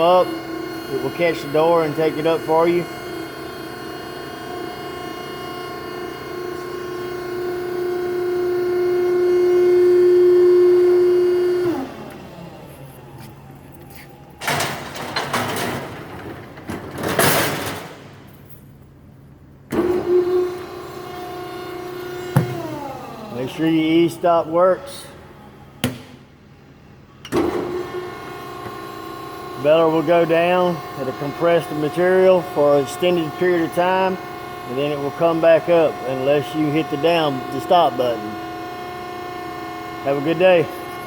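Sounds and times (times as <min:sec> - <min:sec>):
hydraulic pump motor humming: 0:00.0 - 0:15.6, 0:19.7 - 0:26.2, 0:27.3 - 0:41.0.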